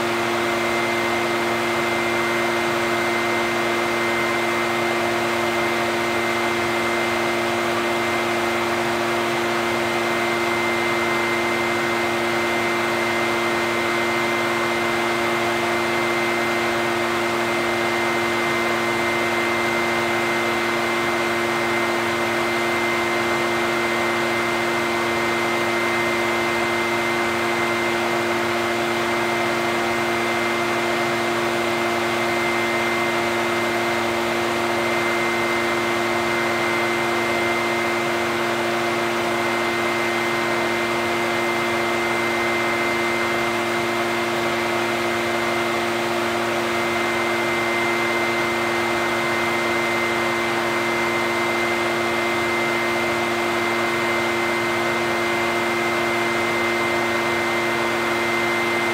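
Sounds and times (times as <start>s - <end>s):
leaf blower running: 0.0s - 58.9s.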